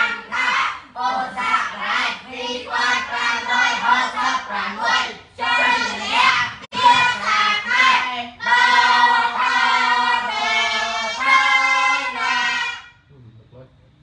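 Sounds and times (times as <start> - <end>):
class chanting in unison: 0.0 - 13.0.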